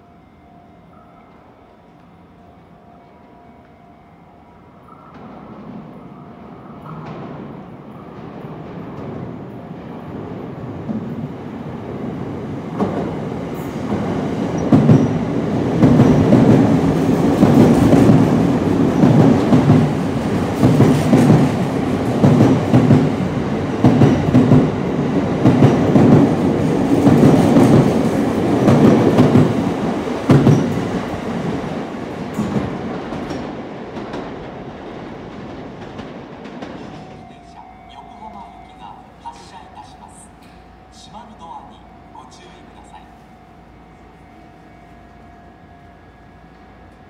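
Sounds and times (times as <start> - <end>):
electric train passing at speed: 0.0 - 47.0.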